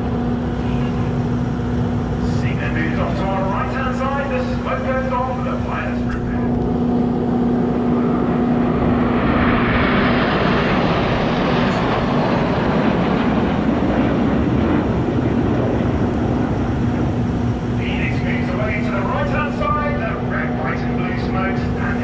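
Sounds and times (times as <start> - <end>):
jets flying past: 0.0 - 22.0.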